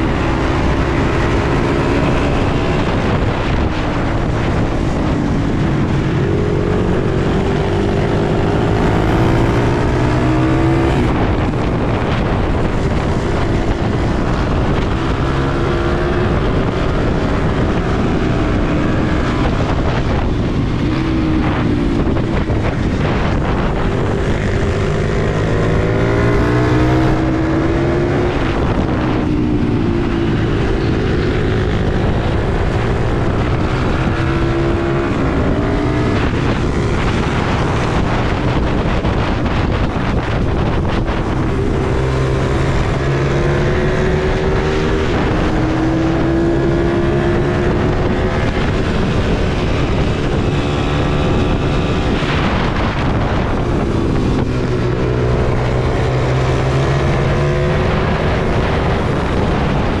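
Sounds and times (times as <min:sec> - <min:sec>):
motorbike engine revving: 0:00.0 - 1:00.0.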